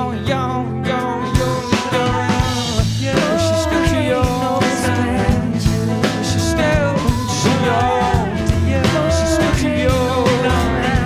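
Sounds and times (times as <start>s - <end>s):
acoustic guitar: 0.0s - 11.0s
double bass: 0.0s - 11.0s
electric guitar: 0.0s - 11.0s
man singing: 0.0s - 11.0s
woman singing: 0.8s - 11.0s.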